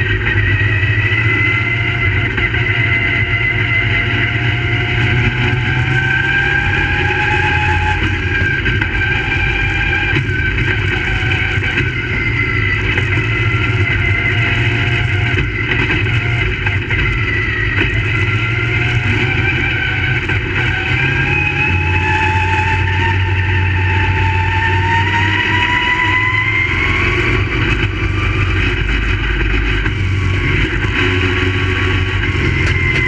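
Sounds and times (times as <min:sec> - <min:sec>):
race car engines racing: 0:00.0 - 0:33.0.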